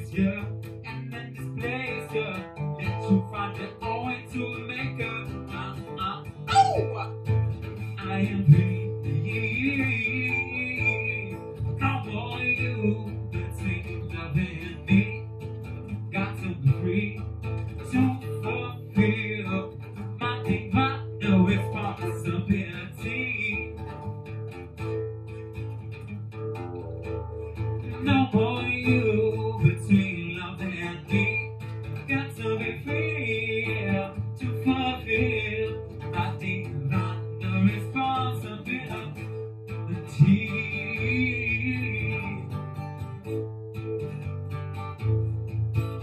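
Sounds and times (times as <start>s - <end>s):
person singing: 0.0s - 15.3s, 16.0s - 17.2s, 17.8s - 23.8s, 27.5s - 42.7s
acoustic guitar strumming: 0.0s - 46.0s.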